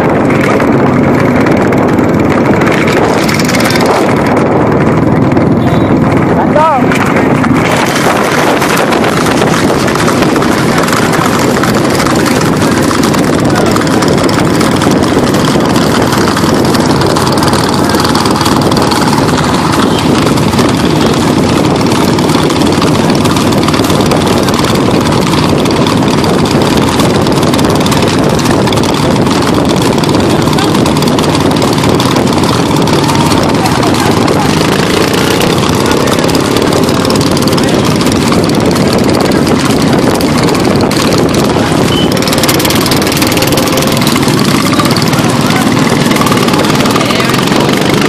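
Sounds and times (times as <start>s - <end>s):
loud even rushing noise: 0.0s - 48.0s
vehicle engine running: 0.0s - 48.0s.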